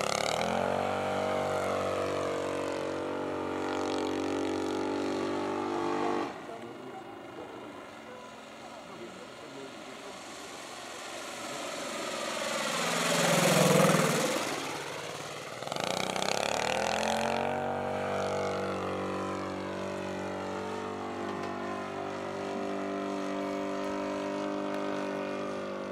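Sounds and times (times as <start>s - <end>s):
model aeroplane engine passing: 0.0s - 25.9s.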